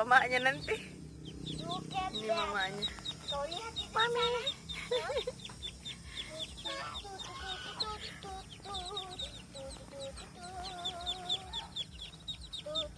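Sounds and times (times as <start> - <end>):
ducklings peeping: 0.0 - 12.9
wavering lower calls: 0.0 - 12.9.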